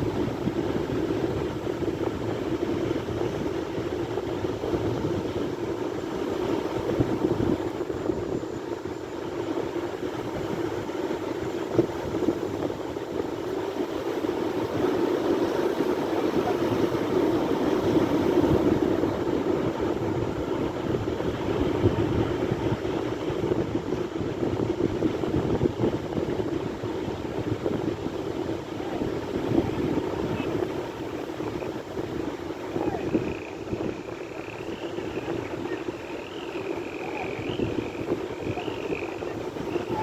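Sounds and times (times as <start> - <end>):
sea waves washing on shore: 0.0 - 40.0.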